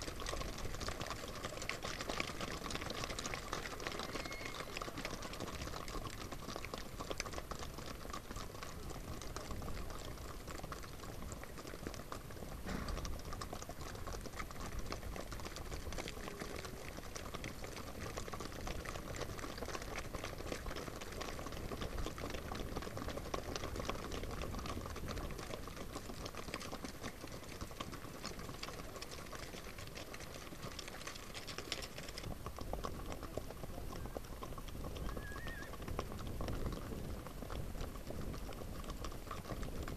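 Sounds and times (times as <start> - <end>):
horse hooves on gravel: 0.0 - 39.9.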